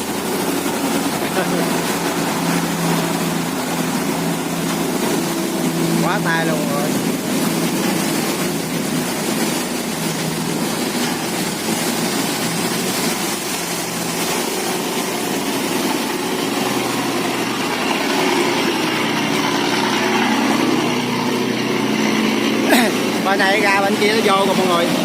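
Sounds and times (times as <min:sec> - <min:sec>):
boat engines running: 0:00.0 - 0:25.0.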